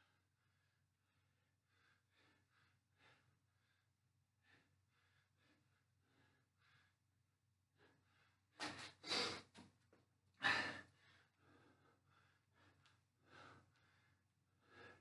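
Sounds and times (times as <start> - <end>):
man breathing hard: 0.0 - 7.0, 7.8 - 9.6, 10.4 - 15.0.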